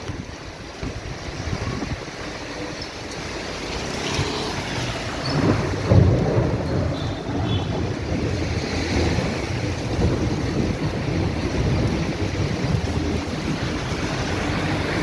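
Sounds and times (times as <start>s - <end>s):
hiss of precipitation: 0.0s - 15.0s
wind gusting against microphone: 0.0s - 15.0s.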